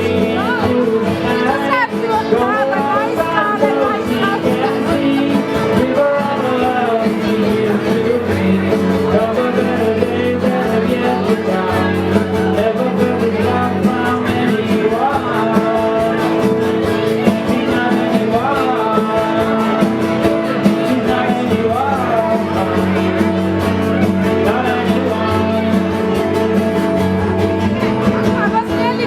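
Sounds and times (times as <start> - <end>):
drums: 0.0 - 29.0
electric guitars: 0.0 - 29.0
person singing: 0.0 - 29.0.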